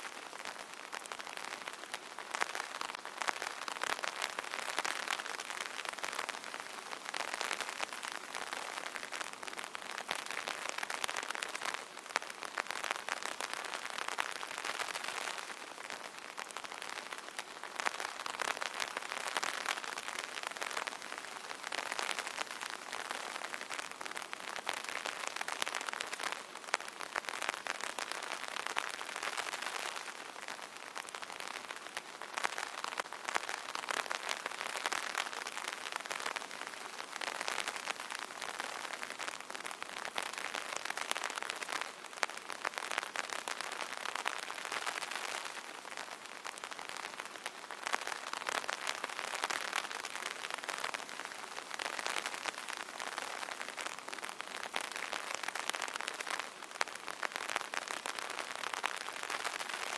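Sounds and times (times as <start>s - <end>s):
rain pattering on an umbrella: 0.0s - 59.9s.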